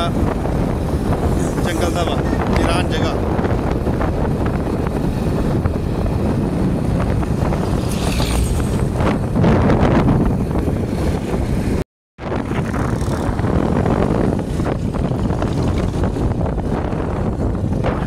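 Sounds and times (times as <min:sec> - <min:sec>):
road and engine noise: 0:00.0 - 0:18.0
wind buffeting microphone: 0:00.0 - 0:18.0.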